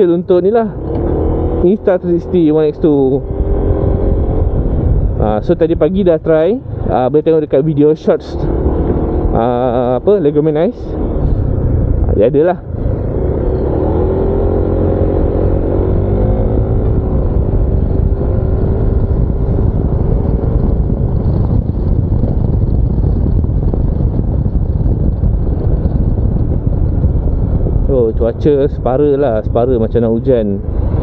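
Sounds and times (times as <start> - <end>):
wind rumble on microphone: 0.0 - 31.0
scooter engine droning: 0.6 - 7.1, 8.0 - 28.4.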